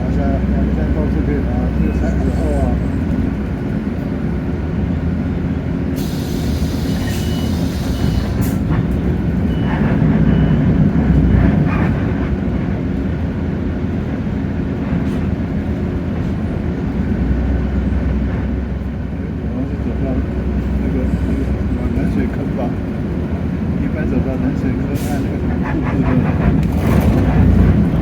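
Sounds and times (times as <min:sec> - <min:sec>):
bus diesel engine: 0:00.0 - 0:28.0
road noise: 0:00.0 - 0:28.0.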